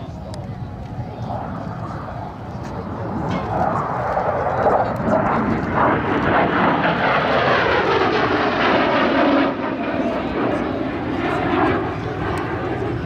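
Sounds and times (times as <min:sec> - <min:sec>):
jet engine rushing pass: 0:01.5 - 0:13.0.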